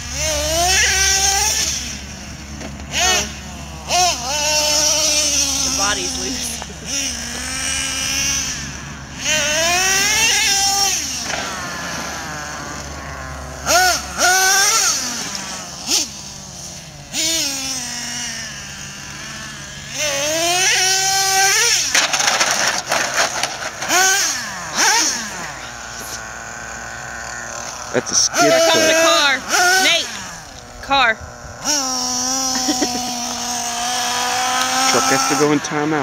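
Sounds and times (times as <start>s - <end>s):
rc truck engine revving: 0.0s - 36.0s.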